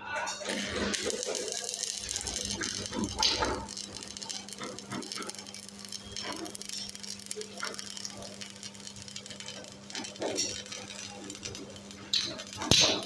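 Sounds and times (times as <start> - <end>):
arc welding crackling and sizzling: 0.0 - 13.0
low electrical hum: 0.3 - 13.0.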